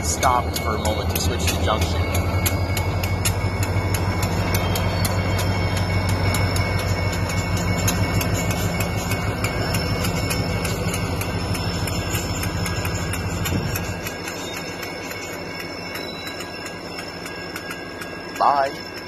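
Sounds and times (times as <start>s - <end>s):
diesel locomotive rumble: 0.0s - 19.0s
railroad crossing bell ringing: 0.0s - 19.0s.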